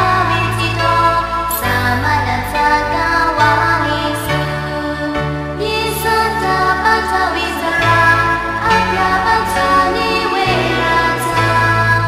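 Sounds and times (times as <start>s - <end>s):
steady bass line: 0.0s - 12.0s
sustained accompaniment notes: 0.0s - 12.0s.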